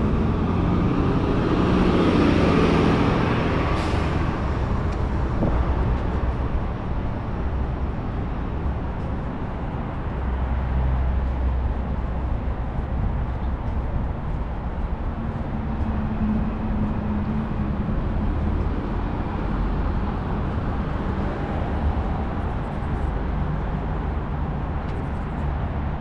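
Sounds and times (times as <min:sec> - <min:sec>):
passing engine hum: 0:00.0 - 0:26.0
traffic rumble: 0:00.0 - 0:26.0.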